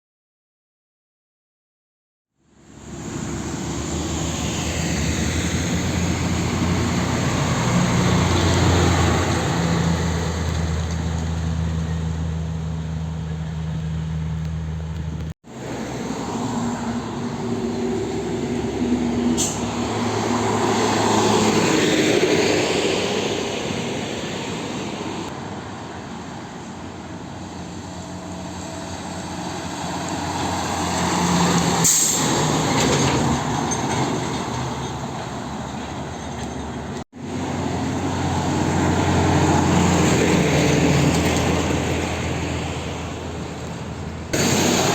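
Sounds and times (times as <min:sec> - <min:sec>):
diesel trucks passing: 0:02.5 - 0:44.9.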